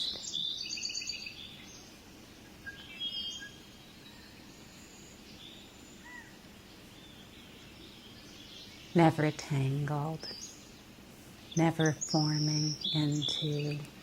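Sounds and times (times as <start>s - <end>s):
birds chirping and trilling: 0.0s - 14.0s
soft ambient background: 0.0s - 14.0s.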